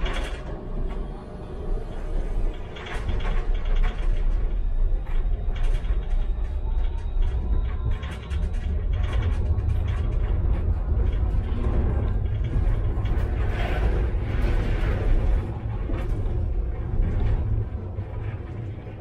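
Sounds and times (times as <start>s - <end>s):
tram rumbling on track: 0.0s - 19.0s
wheels clicking on rails: 0.0s - 19.0s.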